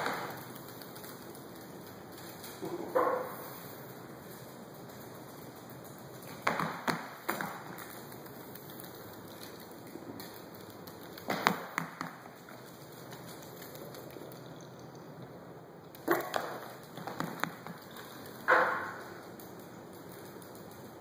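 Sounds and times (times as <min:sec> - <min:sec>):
dog claws clicking on wooden floor: 0:00.0 - 0:15.1, 0:15.9 - 0:21.0.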